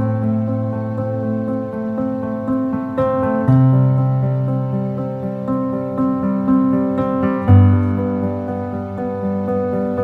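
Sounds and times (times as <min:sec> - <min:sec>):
keyboard music with held notes: 0:00.0 - 0:10.0.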